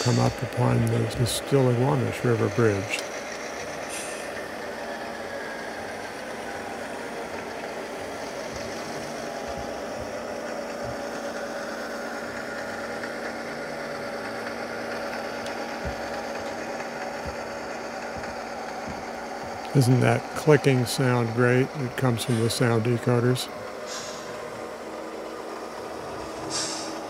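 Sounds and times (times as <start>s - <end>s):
model locomotive engine hum: 0.0s - 27.0s.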